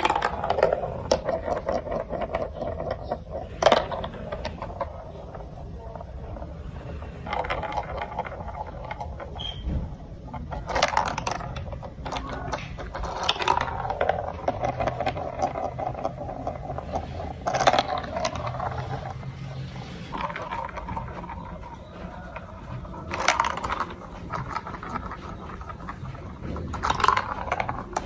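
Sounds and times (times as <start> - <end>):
marbles rolling through marble run: 0.0 - 28.0
sharp marble clacks: 0.0 - 28.0.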